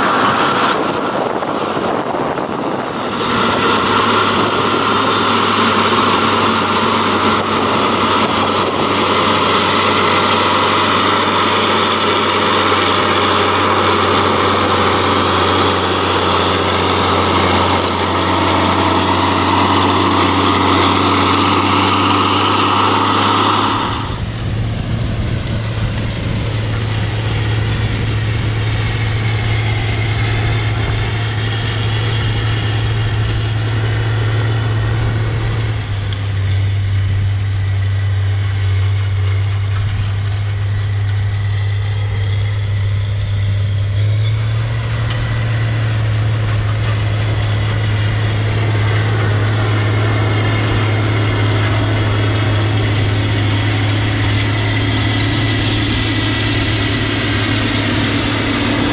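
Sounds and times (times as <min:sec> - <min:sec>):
tractor diesel engine droning: 0:00.0 - 0:58.9.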